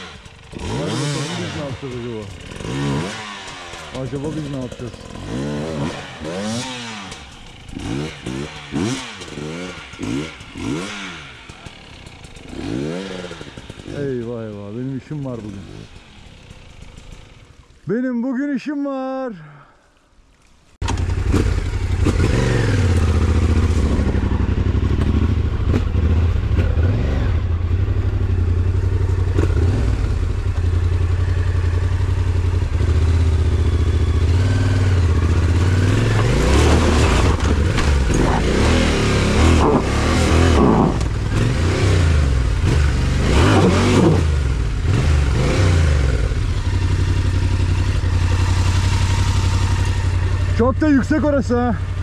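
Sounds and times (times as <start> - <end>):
motorcycle engine revving: 0.0 - 17.8, 20.8 - 52.0.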